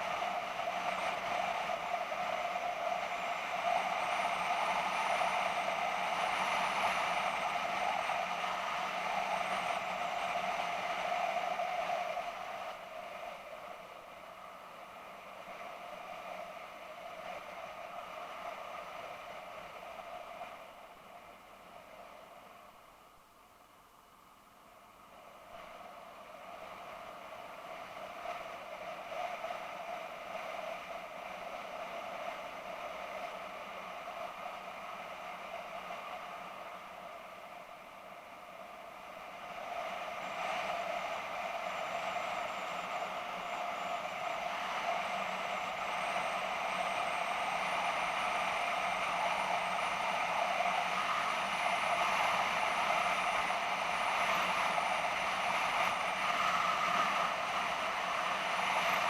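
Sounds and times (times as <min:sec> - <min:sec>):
faint high whine: 0:00.0 - 0:59.0.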